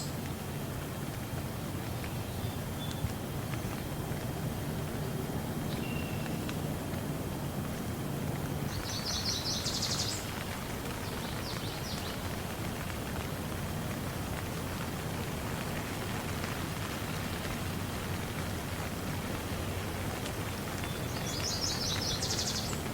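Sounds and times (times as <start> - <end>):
steady rain falling: 0.0 - 22.9.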